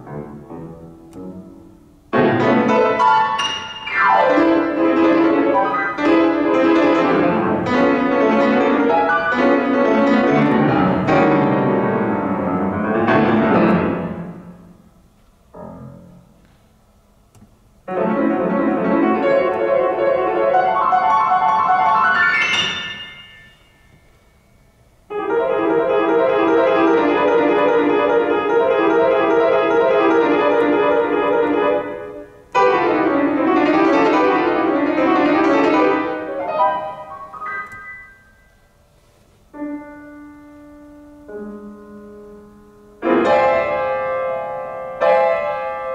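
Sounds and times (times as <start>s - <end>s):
solo grand piano: 0.0s - 45.9s.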